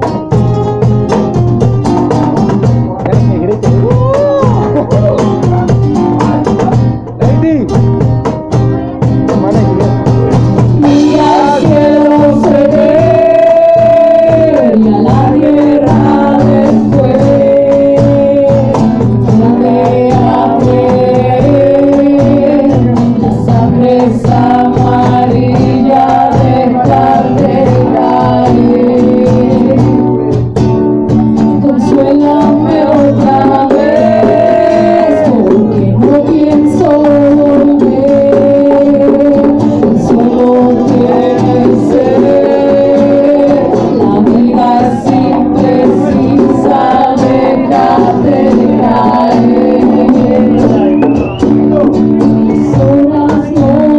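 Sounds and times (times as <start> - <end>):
percussion: 0.0 - 53.9
strummed acoustic guitar: 0.0 - 53.9
person singing: 3.0 - 6.8, 9.4 - 30.5, 31.4 - 53.9.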